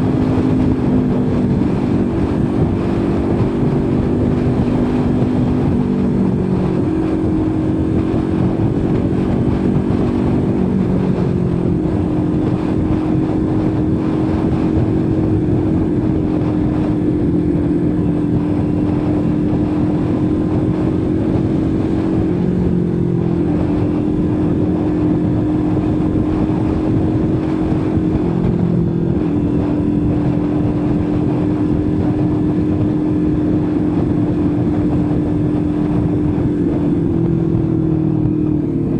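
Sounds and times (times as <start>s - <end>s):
motorcycle engine cruising: 0.0s - 38.9s
rushing wind: 0.0s - 38.9s.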